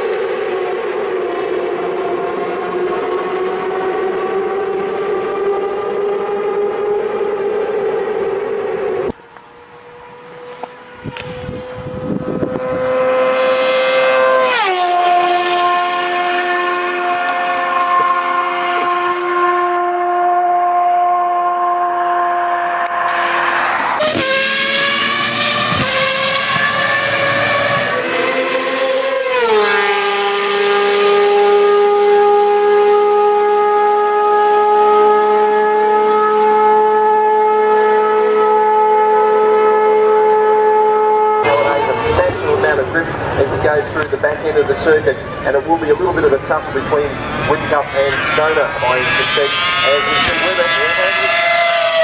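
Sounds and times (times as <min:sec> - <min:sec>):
loud engine cutting off: 0:00.0 - 0:40.4, 0:41.2 - 0:52.0
vehicle engine at high revs passing: 0:00.0 - 0:52.0.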